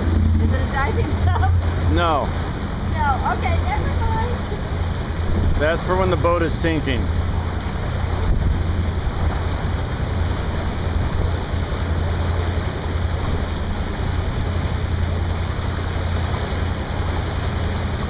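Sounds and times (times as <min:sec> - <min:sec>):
constant low rumble: 0:00.0 - 0:18.0
water lapping around a boat: 0:00.0 - 0:18.0
wind buffeting microphone: 0:00.0 - 0:18.0.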